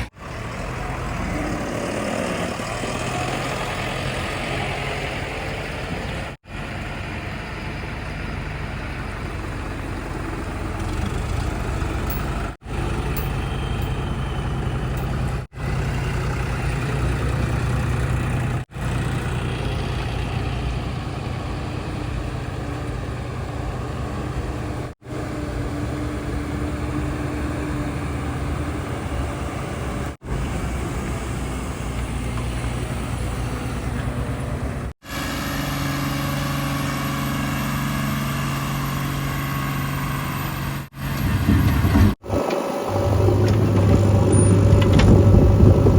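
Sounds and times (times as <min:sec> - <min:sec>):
heavy diesel engines droning: 0:00.0 - 0:45.9.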